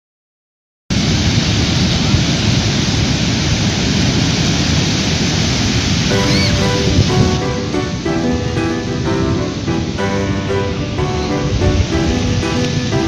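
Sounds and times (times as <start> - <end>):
surf breaking on a beach: 0.9 - 13.0.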